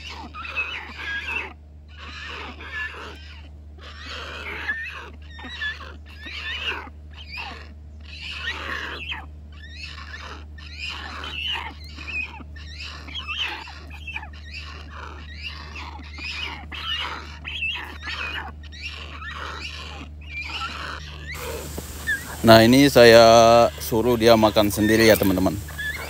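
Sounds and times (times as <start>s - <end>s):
hornbill harsh begging calls: 0.0s - 26.0s.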